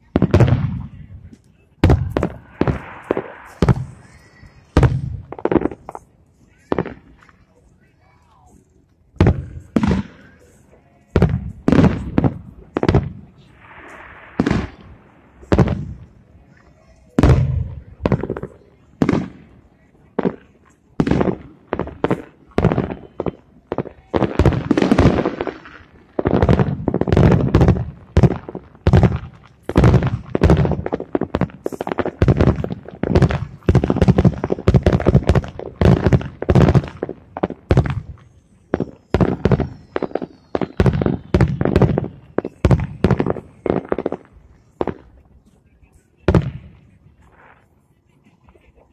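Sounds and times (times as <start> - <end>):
distant fireworks bursting: 0.0 - 48.9.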